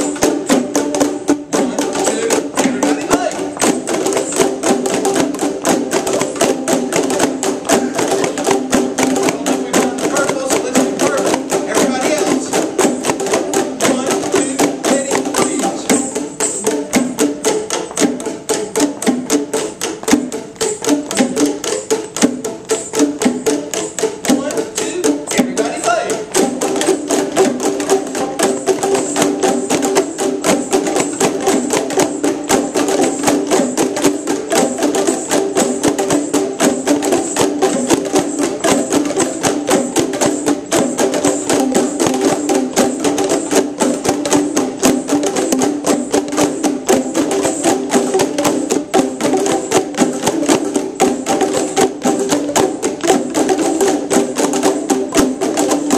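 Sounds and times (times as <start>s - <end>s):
plastic tubes struck rhythmically: 0.0s - 55.9s.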